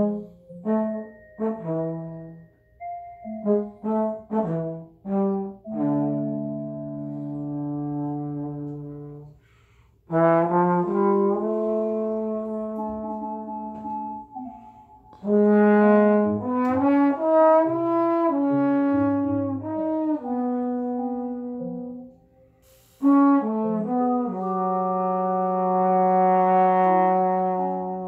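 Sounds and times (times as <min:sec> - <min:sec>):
trombone improvising: 0:00.0 - 0:09.4, 0:10.1 - 0:28.0.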